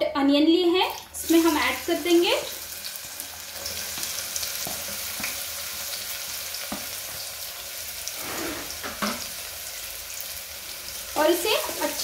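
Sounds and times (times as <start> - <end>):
onions sizzling in hot oil: 0.9 - 12.0.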